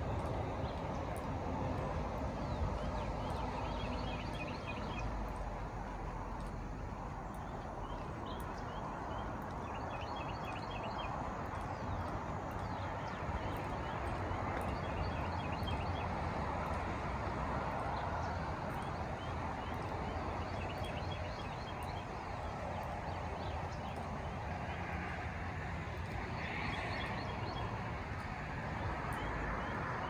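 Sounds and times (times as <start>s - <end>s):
footsteps on bridge deck: 0.0s - 30.0s
road traffic noise: 0.0s - 30.0s.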